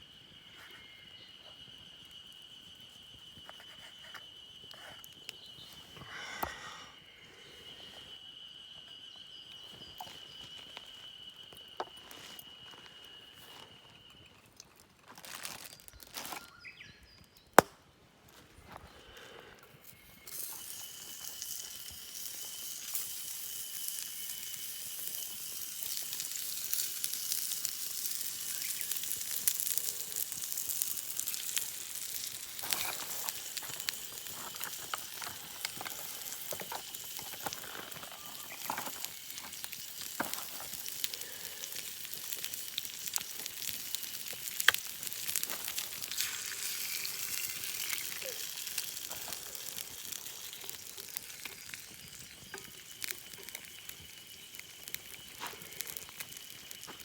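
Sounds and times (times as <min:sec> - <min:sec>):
sizzling with crackles and pops: 0:00.0 - 0:07.0, 0:07.8 - 0:57.0.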